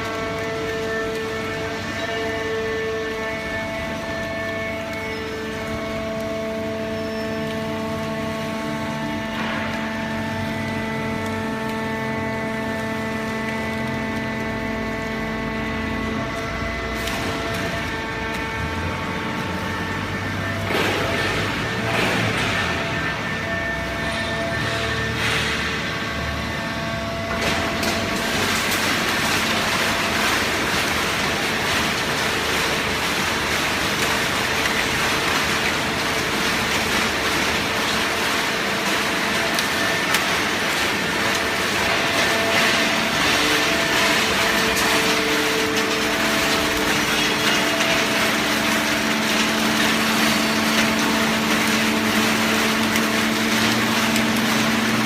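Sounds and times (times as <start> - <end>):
hydraulic pump humming: 0.0 - 55.0.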